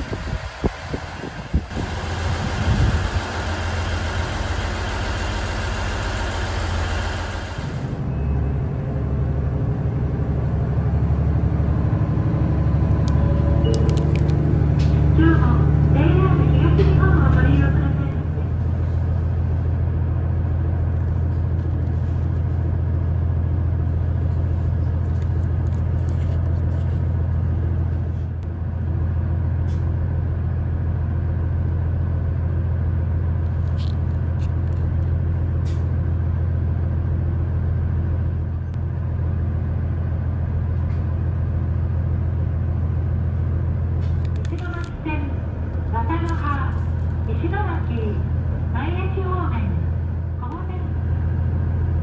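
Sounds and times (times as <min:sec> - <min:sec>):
train low hum: 0:00.0 - 0:52.0.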